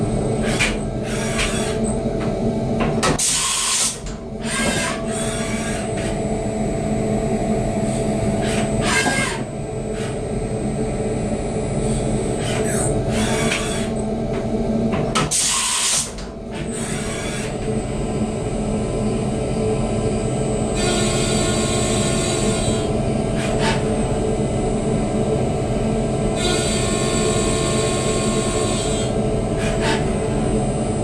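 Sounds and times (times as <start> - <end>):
milling machine spindle whine: 0.0 - 31.0.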